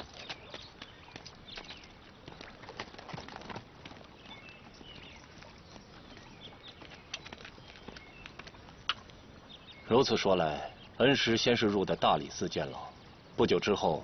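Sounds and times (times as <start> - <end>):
birds chirping: 0.0 - 14.0
horse hooves on sand: 0.0 - 14.0.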